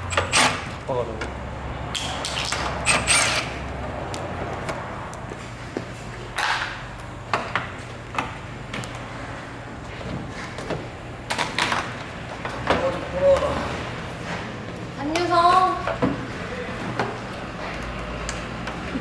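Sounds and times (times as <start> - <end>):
car parts and tools clanking: 0.0 - 19.0.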